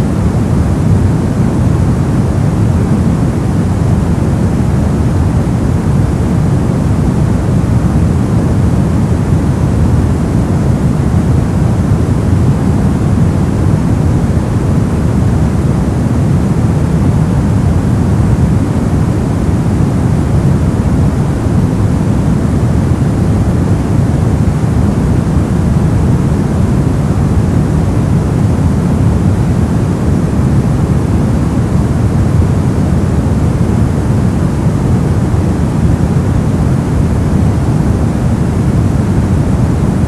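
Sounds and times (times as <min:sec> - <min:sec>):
brown noise rumbling hiss: 0:00.0 - 0:40.0.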